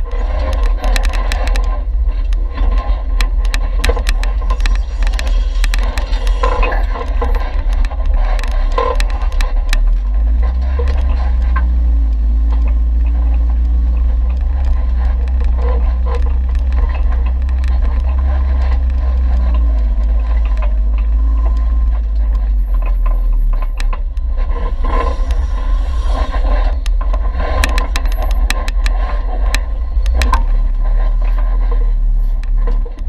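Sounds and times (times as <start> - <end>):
gravel and rocks under tyres: 0.0 - 33.0
off-road vehicle low rumble: 0.0 - 33.0.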